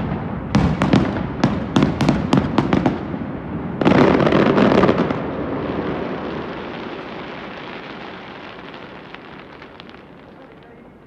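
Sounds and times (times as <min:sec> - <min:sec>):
fireworks sharp bangs: 0:00.0 - 0:10.9
fireworks crackling burst: 0:00.0 - 0:11.0.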